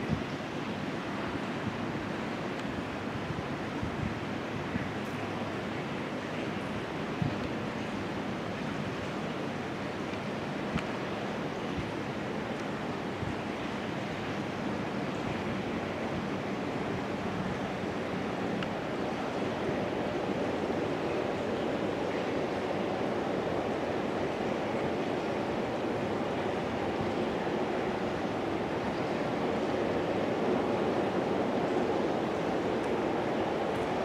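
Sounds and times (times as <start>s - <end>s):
train rushing in tunnel: 0.0s - 34.0s.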